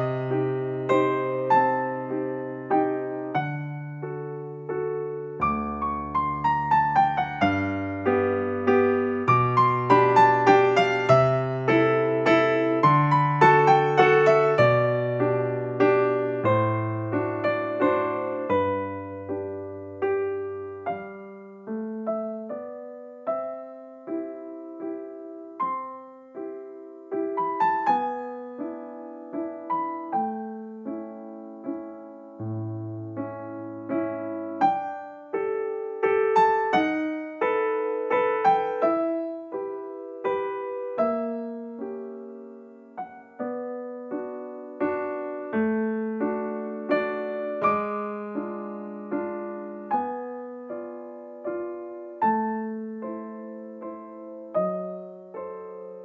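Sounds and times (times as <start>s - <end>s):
solo piano piece: 0.0s - 56.0s.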